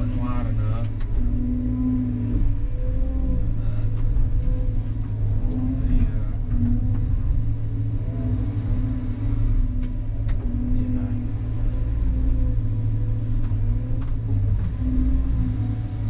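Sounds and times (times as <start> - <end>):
excavator diesel engine running: 0.0 - 16.0
hydraulic whine: 0.0 - 16.0.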